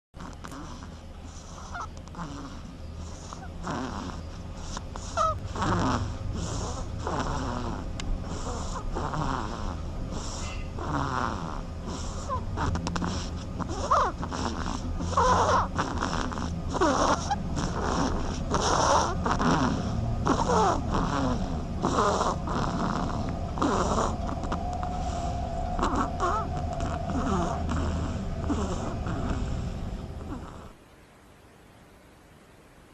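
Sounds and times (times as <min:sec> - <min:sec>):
person snoring: 0:00.2 - 0:30.8.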